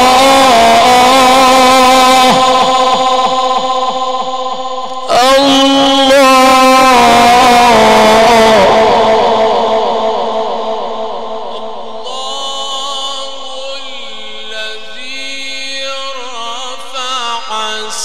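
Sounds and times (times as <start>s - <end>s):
man chanting melodically into microphone: 0.0s - 18.0s.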